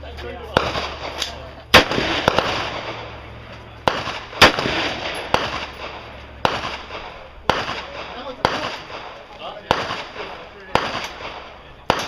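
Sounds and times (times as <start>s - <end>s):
gunshots with echo: 0.5s - 12.0s.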